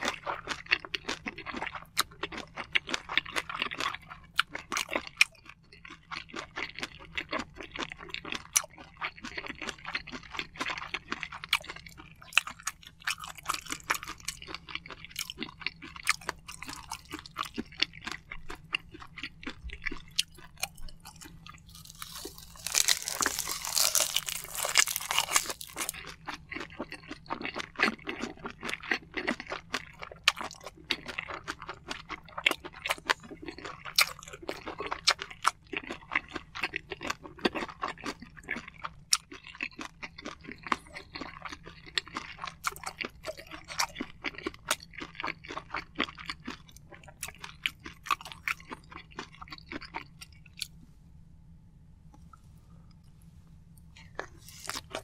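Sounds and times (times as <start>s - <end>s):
close-miked chewing crunches: 0.0s - 50.8s, 52.2s - 55.0s.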